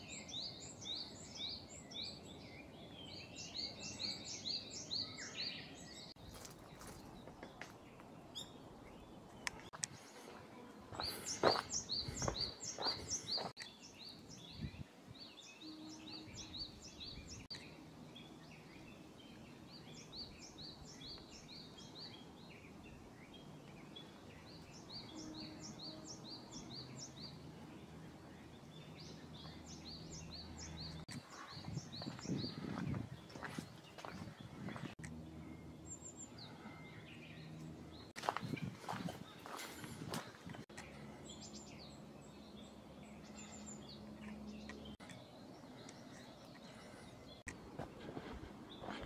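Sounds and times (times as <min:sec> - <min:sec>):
outdoor background noise: 0:00.0 - 0:49.0
songbird singing: 0:00.0 - 0:49.0.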